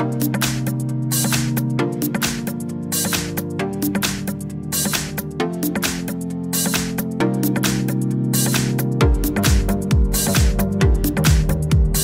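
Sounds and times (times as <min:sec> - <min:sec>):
light ticking beat: 0:00.0 - 0:12.0
music with held chords: 0:00.0 - 0:12.0.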